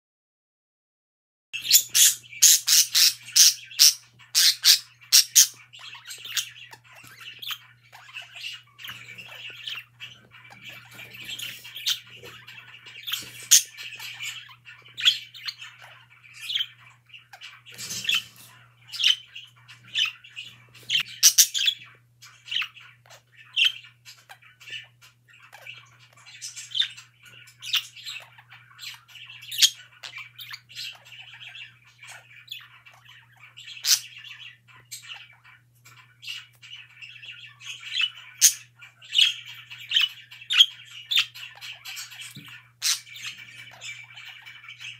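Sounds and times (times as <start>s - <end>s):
budgerigars chattering: 1.6s - 44.9s
sharp bird chirps and squawks: 1.6s - 44.9s.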